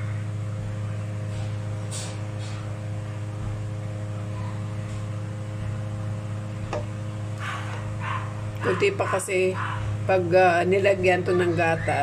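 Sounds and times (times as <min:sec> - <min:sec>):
exhaust fan humming: 0:00.0 - 0:12.0.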